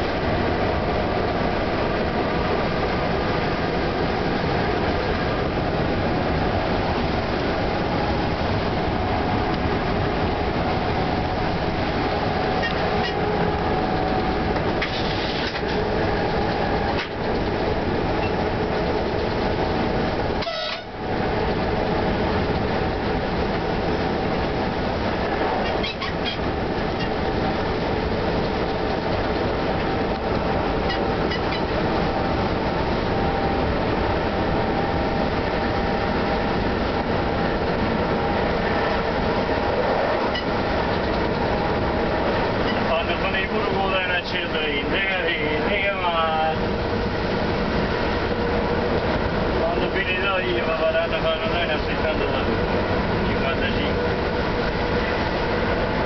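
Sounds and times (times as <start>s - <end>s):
locomotive whining tones: 0.0s - 56.0s
train rail rumble: 0.0s - 56.0s.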